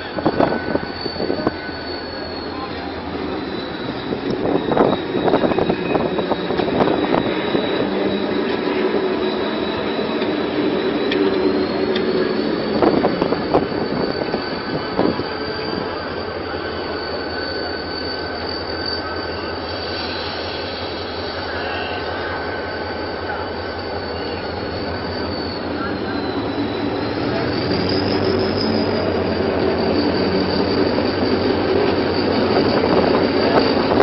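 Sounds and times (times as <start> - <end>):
high-pitched wheel squeal: 0.0 - 34.0.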